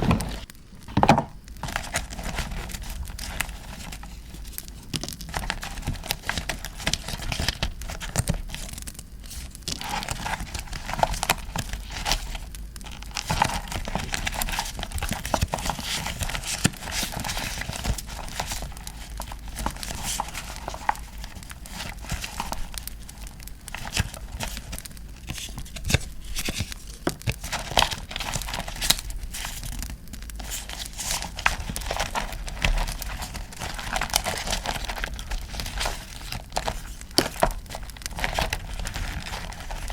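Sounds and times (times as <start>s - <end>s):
paper crinkling and tearing: 0.0s - 39.9s
campfire crackling: 7.6s - 39.9s.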